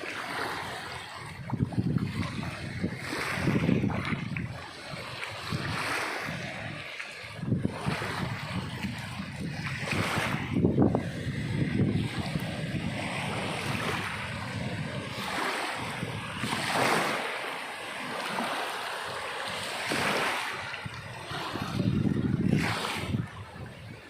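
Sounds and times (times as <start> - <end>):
wind rumbling on microphone: 0.0 - 17.6, 18.2 - 24.0
sea waves washing ashore: 0.0 - 24.0.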